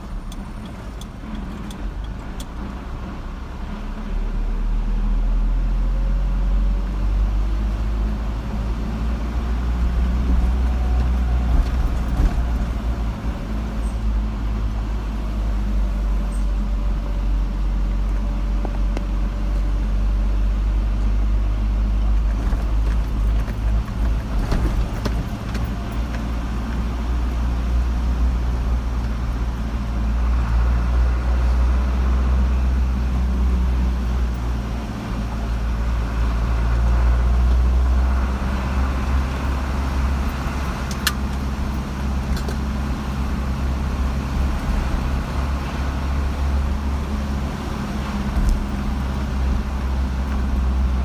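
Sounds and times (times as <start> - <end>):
car engine: 0.0 - 51.0
road rumble: 0.0 - 51.0.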